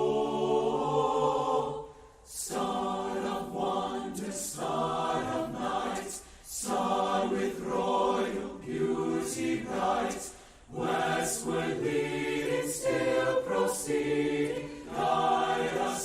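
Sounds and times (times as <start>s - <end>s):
choir breaths: 0.0s - 16.0s
choir singing a carol: 0.0s - 16.0s.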